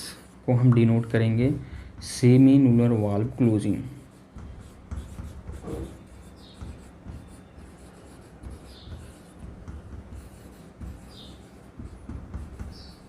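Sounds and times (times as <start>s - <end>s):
pen scratching on paper: 2.0s - 13.0s.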